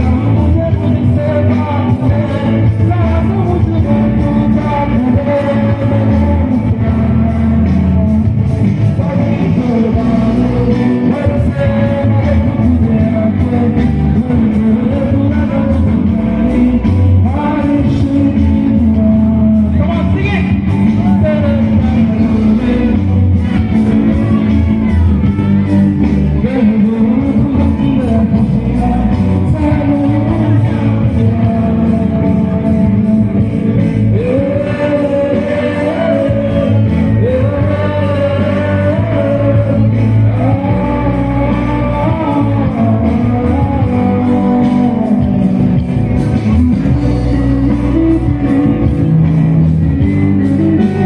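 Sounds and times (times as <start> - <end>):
live rock band: 0.0 - 51.0
man singing: 0.0 - 51.0.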